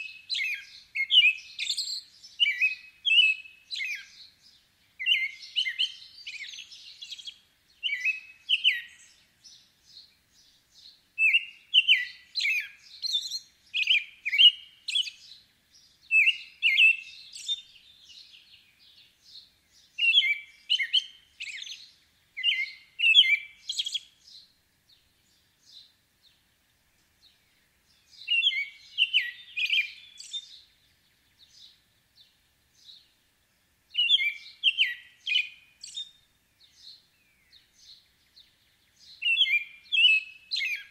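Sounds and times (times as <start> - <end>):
robin singing whistled phrases: 0.0 - 26.0, 27.2 - 33.2, 33.9 - 40.9.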